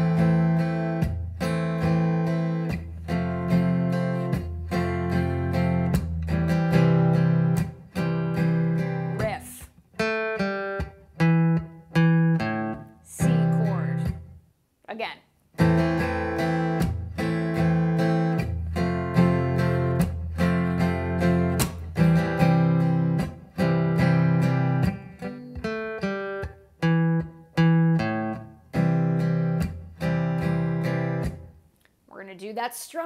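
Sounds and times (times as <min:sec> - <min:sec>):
acoustic guitar strummed: 0:00.0 - 0:14.4, 0:15.6 - 0:31.6
picked guitar riff: 0:00.0 - 0:14.4, 0:15.5 - 0:31.7.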